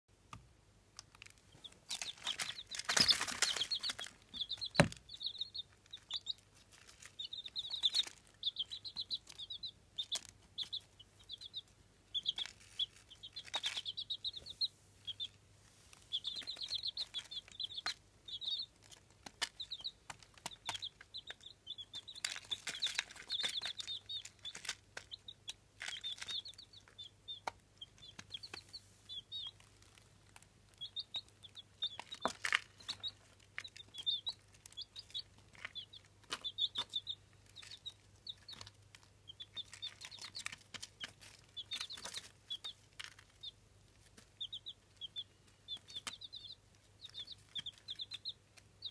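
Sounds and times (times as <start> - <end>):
chicks peeping: 0.2 - 48.9
rustling: 1.0 - 48.9.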